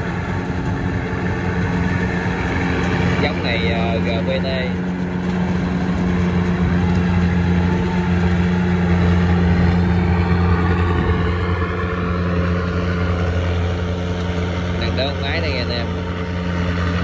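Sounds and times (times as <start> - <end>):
combine harvester engine droning: 0.0 - 17.0.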